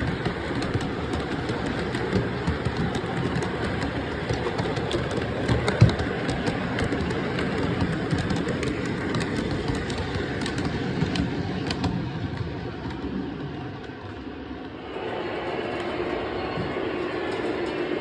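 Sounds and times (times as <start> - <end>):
model train wheels on rails: 0.0 - 18.0.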